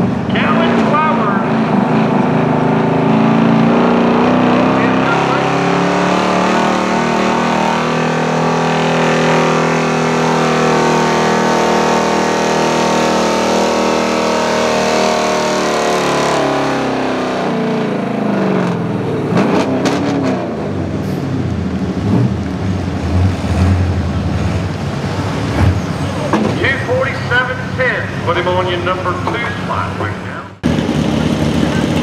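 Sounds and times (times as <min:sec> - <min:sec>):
truck engine at high revs: 0:00.0 - 0:32.0.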